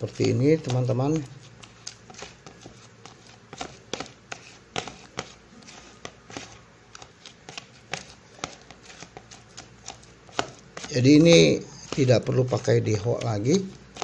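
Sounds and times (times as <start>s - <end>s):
scraper squelching sticky paste: 0.0s - 14.0s.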